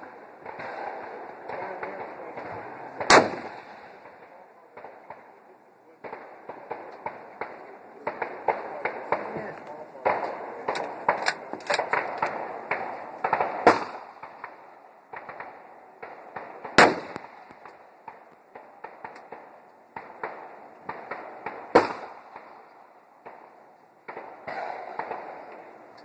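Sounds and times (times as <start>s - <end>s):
rifle shots: 0.0s - 5.3s, 6.0s - 25.9s.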